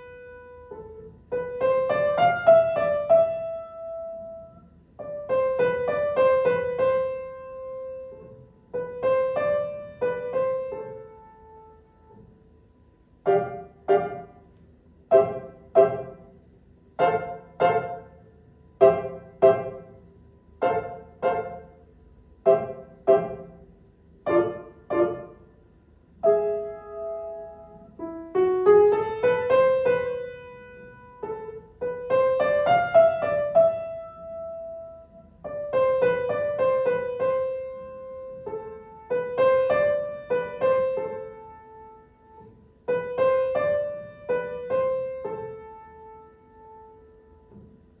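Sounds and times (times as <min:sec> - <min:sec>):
upright piano waltz: 0:00.0 - 0:12.5, 0:13.1 - 0:48.0.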